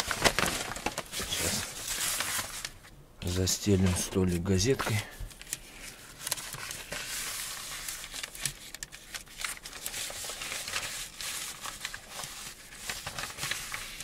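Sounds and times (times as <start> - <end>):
newspaper rustling: 0.0 - 14.0.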